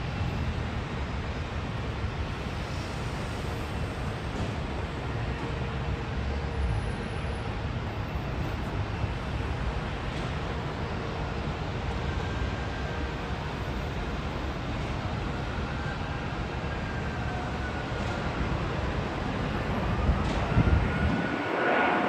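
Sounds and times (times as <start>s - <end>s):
faint engine whine: 0.0s - 22.0s
jet airliner low rumble: 0.0s - 22.0s.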